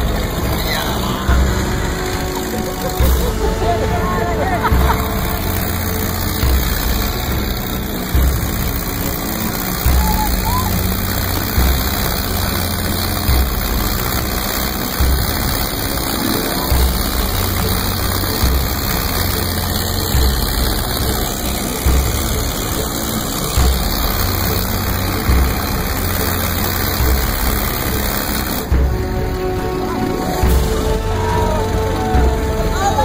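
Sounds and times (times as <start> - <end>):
boat engine running: 0.0 - 33.0
water noise: 0.0 - 33.0.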